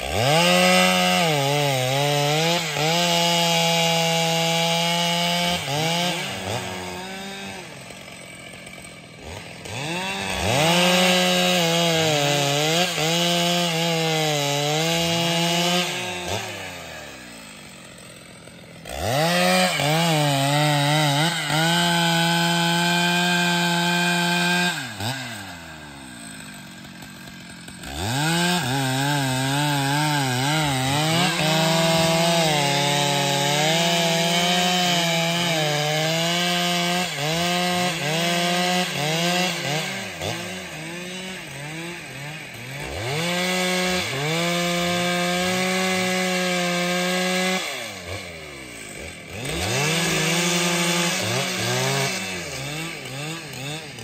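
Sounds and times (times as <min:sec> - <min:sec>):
chainsaw cutting through a log: 0:00.0 - 0:54.0.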